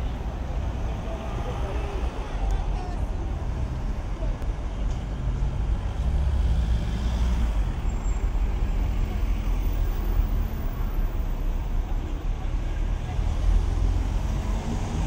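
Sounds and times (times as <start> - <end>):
cars passing slowly: 0.0 - 15.0.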